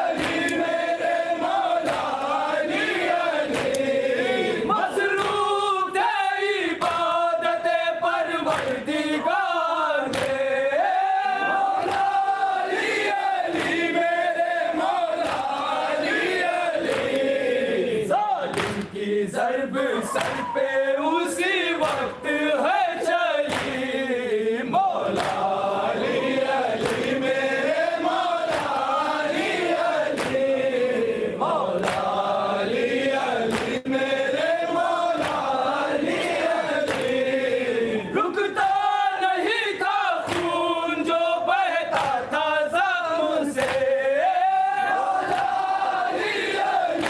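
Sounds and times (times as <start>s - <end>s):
men chanting a lament: 0.0s - 47.0s.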